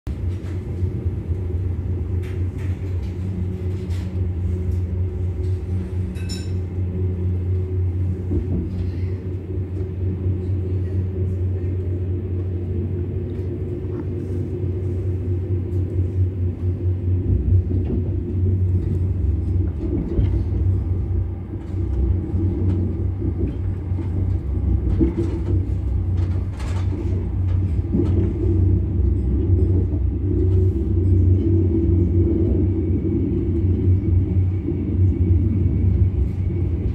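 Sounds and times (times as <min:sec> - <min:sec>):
train rumbling on rails: 0:00.1 - 0:36.9.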